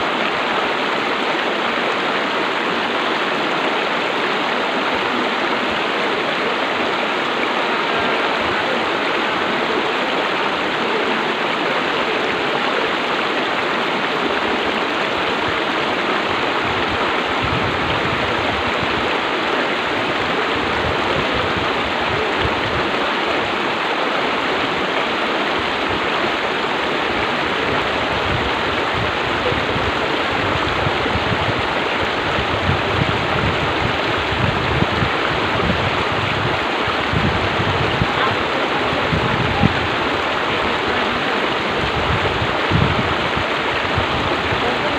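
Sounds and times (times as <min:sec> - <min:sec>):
river rushing over rapids: 0:00.0 - 0:44.9.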